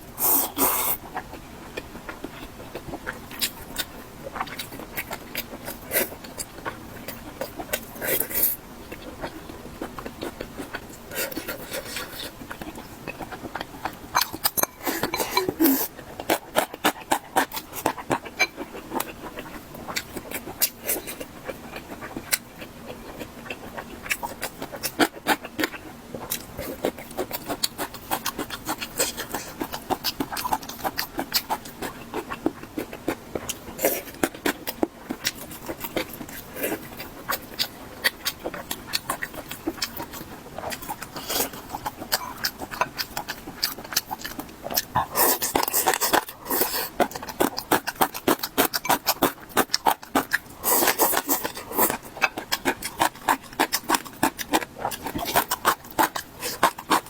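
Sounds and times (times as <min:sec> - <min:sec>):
chewing and crunching: 0:00.1 - 0:57.0.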